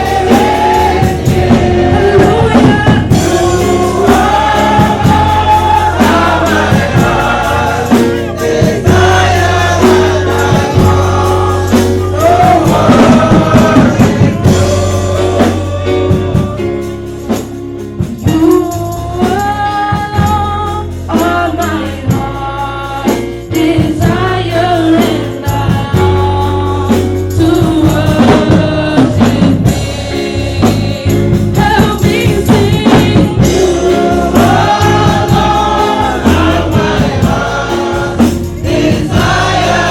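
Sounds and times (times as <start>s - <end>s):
bass notes: 0.0s - 21.4s, 23.6s - 39.9s
drums: 0.0s - 39.9s
gospel choir singing: 0.0s - 39.9s
tambourine: 0.0s - 39.9s.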